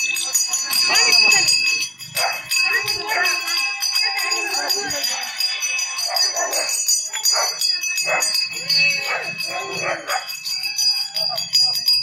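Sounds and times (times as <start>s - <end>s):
high ringing: 0.0s - 12.0s
small bells jingling: 0.0s - 12.0s
voices calling out: 0.0s - 12.0s.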